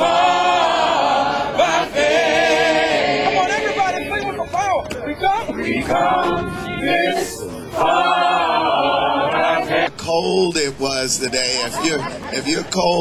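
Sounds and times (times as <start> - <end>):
crowd singing unaccompanied: 0.0 - 13.0.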